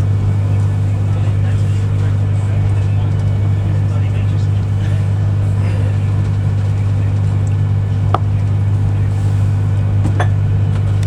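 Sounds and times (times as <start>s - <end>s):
train interior hum: 0.0s - 11.0s.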